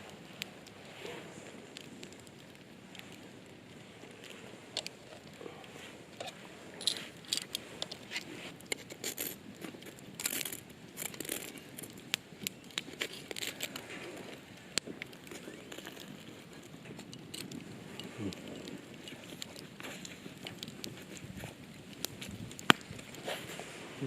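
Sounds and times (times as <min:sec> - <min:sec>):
crinkling rustles: 0:00.0 - 0:24.0.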